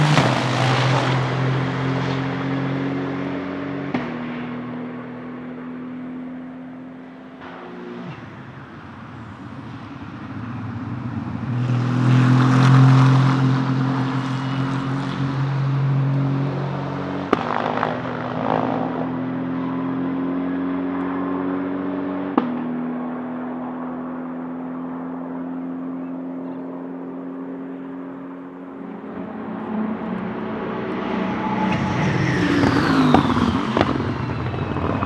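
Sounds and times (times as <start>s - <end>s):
race car passing at speed: 0.0s - 35.0s.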